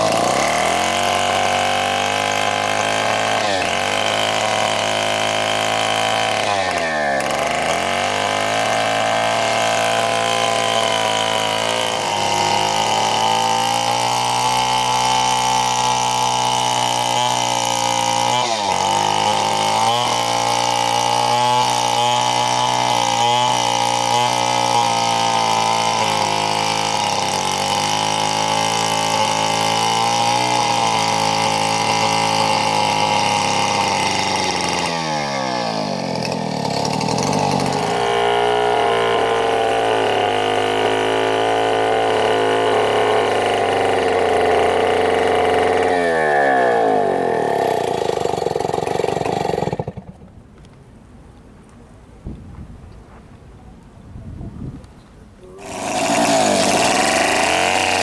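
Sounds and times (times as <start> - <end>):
chainsaw cutting log: 0.0 - 50.4, 55.4 - 58.0.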